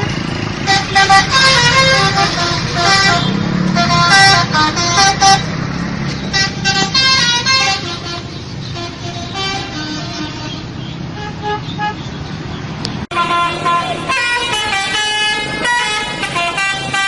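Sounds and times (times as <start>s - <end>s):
multi-tone bus horn: 0.0s - 12.2s, 13.1s - 17.0s
bus engine rumble: 0.0s - 17.0s.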